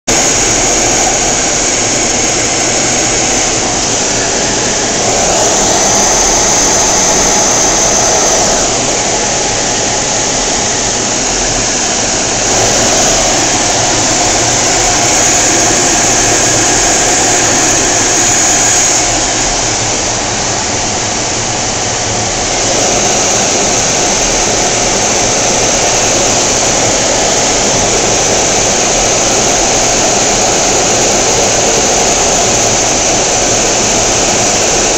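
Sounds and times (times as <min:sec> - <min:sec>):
jet engine rushing with high whine: 0:00.0 - 0:34.9.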